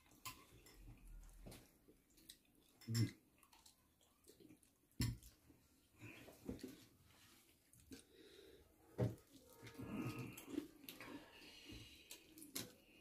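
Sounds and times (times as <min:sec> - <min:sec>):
faint chewing: 0:00.0 - 0:13.0.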